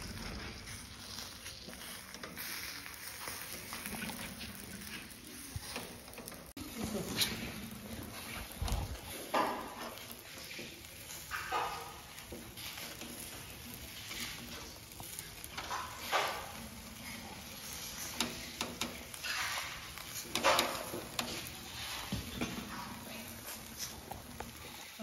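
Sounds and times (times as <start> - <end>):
kebabs sizzling over charcoal: 0.0 - 25.0
metal skewers rattling and scraping: 0.0 - 25.0.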